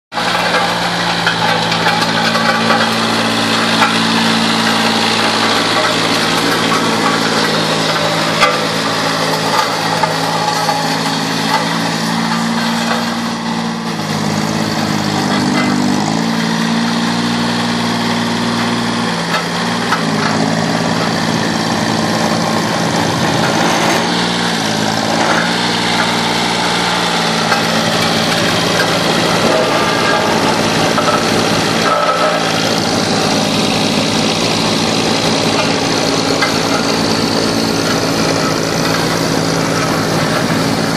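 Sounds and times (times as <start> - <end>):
road roller engine running: 0.1 - 40.9.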